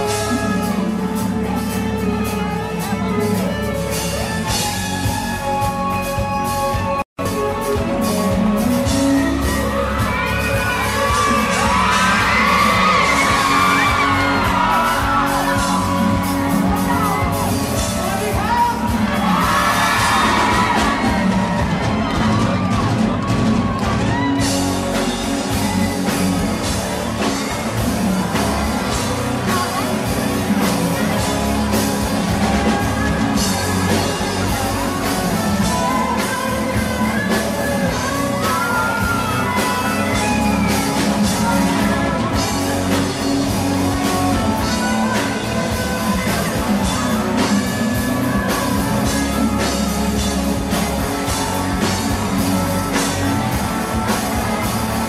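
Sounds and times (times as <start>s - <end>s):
person singing: 0.0s - 22.7s, 24.1s - 55.0s
live rock band: 0.0s - 55.0s.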